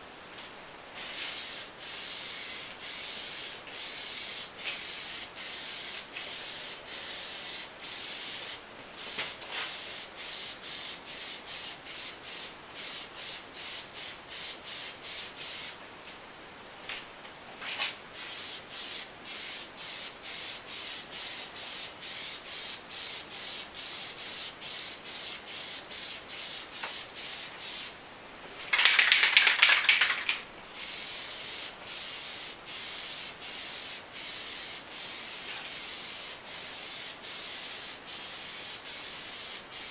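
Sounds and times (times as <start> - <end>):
aerosol can spraying hiss: 1.0 - 15.8, 17.7 - 28.0, 28.7 - 39.9.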